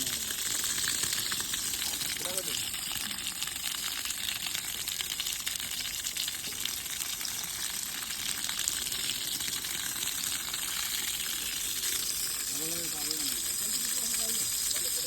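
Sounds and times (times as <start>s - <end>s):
water spraying from a hose: 0.0s - 15.0s.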